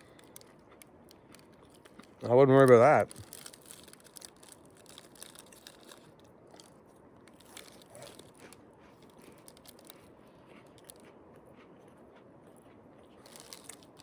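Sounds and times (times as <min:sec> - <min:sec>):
person chewing crunchy snack: 0:00.0 - 0:14.0.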